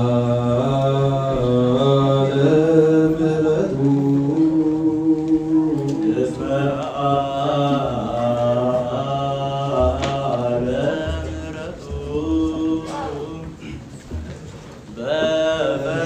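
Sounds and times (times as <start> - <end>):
men chanting a hymn: 0.0 - 16.0.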